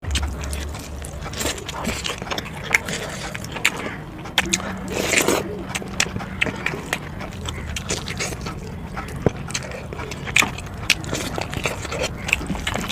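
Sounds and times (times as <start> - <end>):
chewing chicken: 0.0 - 12.9.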